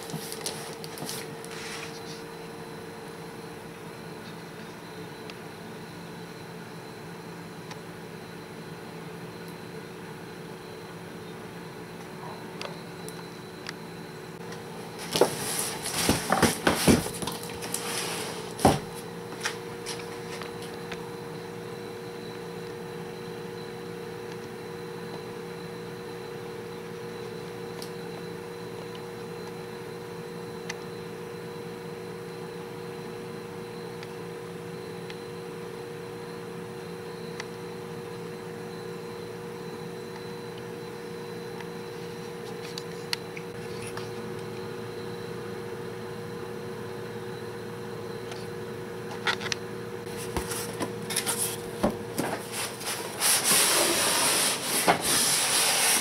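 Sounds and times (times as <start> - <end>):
faint high whine: 0.0 - 56.0
mechanical hum: 0.0 - 56.0.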